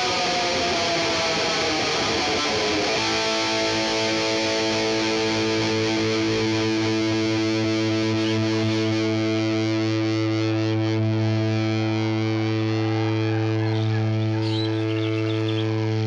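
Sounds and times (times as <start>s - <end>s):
distorted electric guitar chord: 0.0s - 16.0s.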